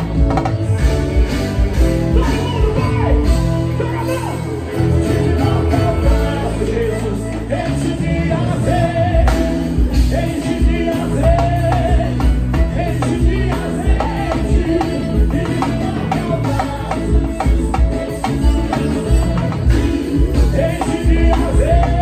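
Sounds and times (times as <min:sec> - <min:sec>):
drums and bass beat: 0:00.0 - 0:22.0
electric guitar: 0:00.0 - 0:22.0
person singing: 0:01.8 - 0:22.0.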